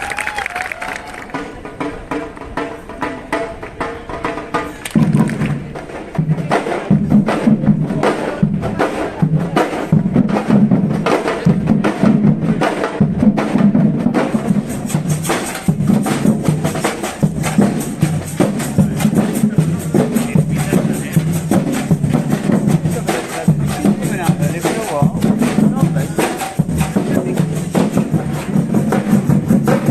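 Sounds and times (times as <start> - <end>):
drums and hand percussion: 0.0 - 29.9.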